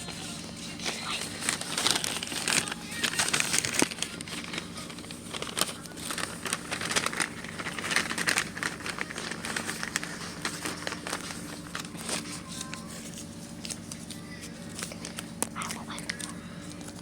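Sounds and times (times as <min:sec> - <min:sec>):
bag crinkling: 0:00.0 - 0:17.0.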